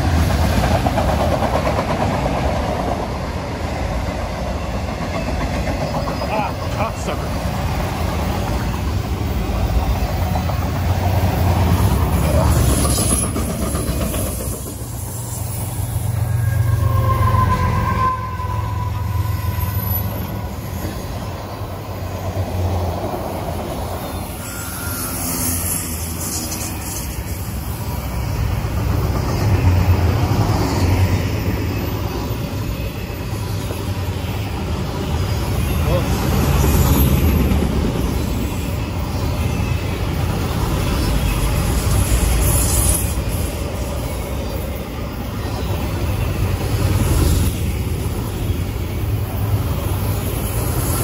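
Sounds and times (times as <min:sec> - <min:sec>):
diesel locomotive hum: 0:00.0 - 0:51.0
train wheels rumbling on rails: 0:00.0 - 0:51.0.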